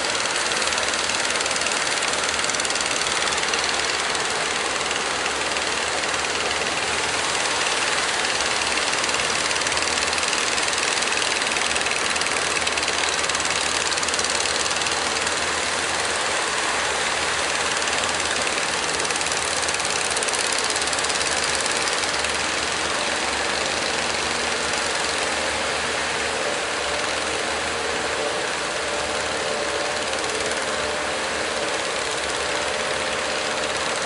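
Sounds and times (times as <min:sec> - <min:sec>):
boat engines running: 0:00.0 - 0:34.0.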